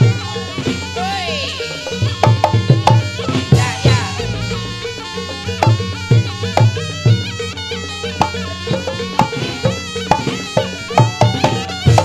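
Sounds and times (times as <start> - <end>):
drum strokes: 0.0 - 12.0
reedy wind instrument melody: 0.0 - 12.0.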